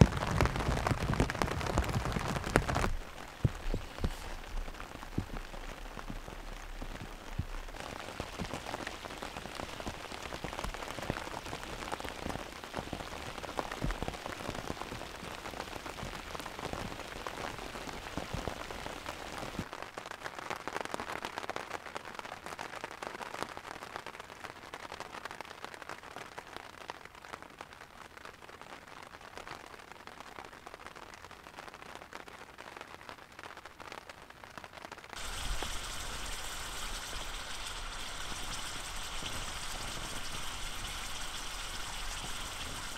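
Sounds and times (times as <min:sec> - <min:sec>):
rain drops hitting a tarp: 0:00.0 - 0:42.9
rain falling on lake water: 0:00.0 - 0:42.9.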